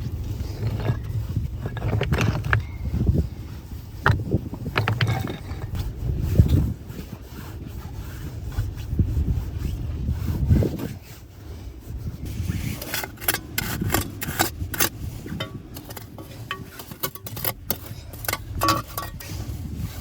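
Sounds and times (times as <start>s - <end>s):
low wind rumble: 0.0s - 20.0s
scraping and rubbing strokes: 0.0s - 20.0s.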